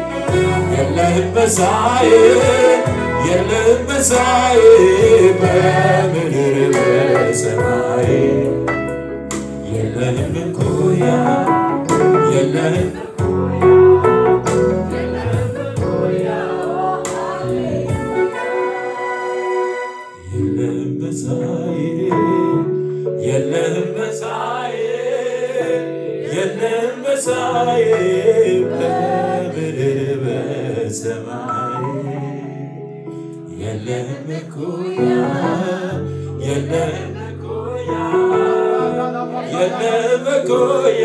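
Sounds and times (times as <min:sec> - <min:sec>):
man singing into microphone: 0:00.0 - 0:08.7, 0:09.6 - 0:19.1, 0:20.2 - 0:41.0
congregation singing: 0:00.0 - 0:41.0
keyboard chords: 0:00.0 - 0:41.0.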